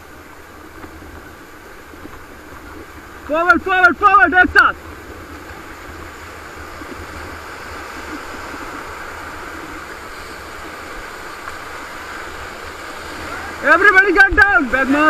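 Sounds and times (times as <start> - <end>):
low water rumble: 0.0 - 15.0
whitewater rushing: 0.0 - 15.0.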